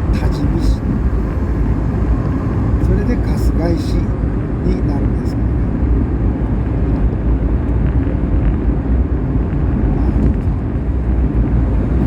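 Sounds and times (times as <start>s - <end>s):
car road noise from inside: 0.0s - 12.0s.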